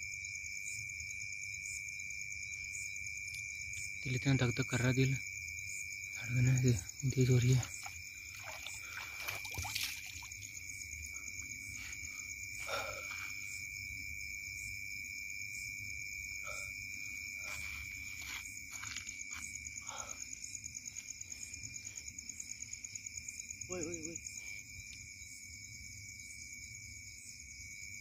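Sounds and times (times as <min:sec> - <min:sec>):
night insects chirping: 0:00.0 - 0:28.0.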